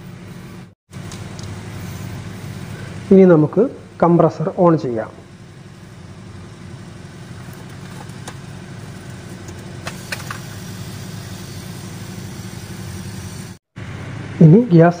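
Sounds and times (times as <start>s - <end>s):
refrigerator compressor humming: 0.0s - 15.0s.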